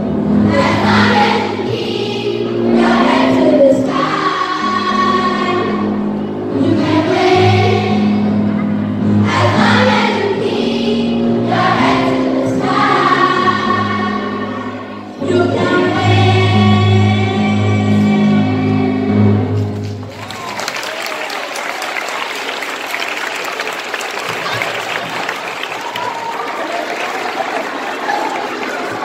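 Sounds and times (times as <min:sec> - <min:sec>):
children's choir singing: 0:00.0 - 0:19.8, 0:24.5 - 0:29.0.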